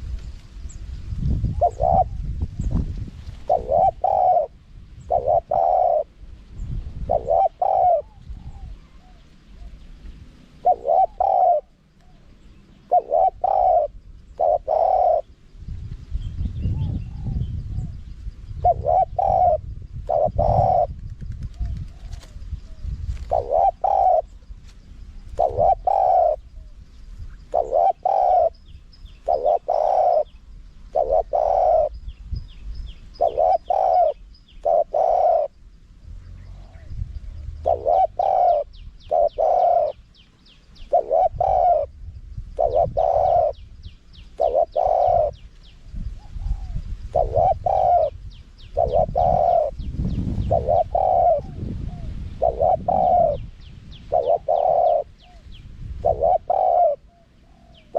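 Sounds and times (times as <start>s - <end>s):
small birds chirping: 0.0s - 57.9s
dove cooing: 1.4s - 2.8s, 3.4s - 6.3s, 6.9s - 15.4s, 16.6s - 24.6s, 25.2s - 26.8s, 27.4s - 32.2s, 33.1s - 35.6s, 36.3s - 57.9s.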